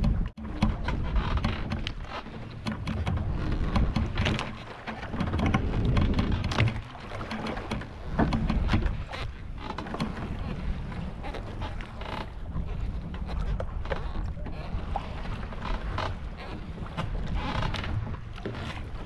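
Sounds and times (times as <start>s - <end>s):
water splashing against boat: 0.0s - 19.0s
wind buffeting microphone: 0.0s - 19.0s.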